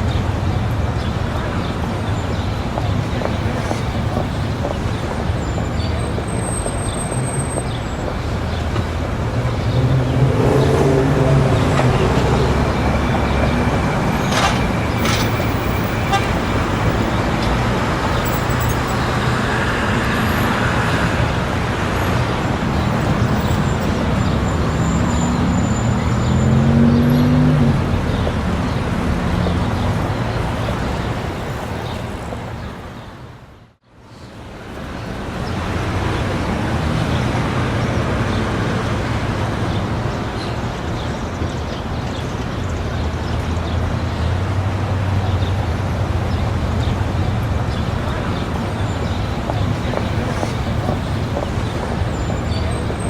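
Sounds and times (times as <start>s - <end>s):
road noise: 0.0s - 53.0s
vehicle engines passing: 0.0s - 53.0s.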